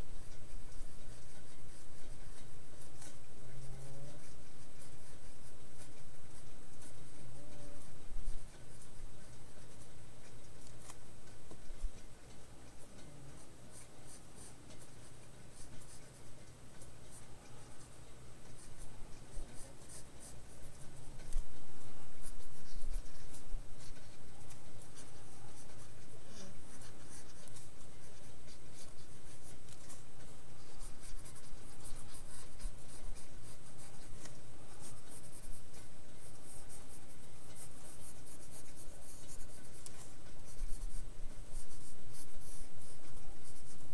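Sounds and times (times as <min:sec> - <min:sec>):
pencil scratching on paper: 0:00.0 - 0:43.9
steady low hum: 0:00.0 - 0:43.9.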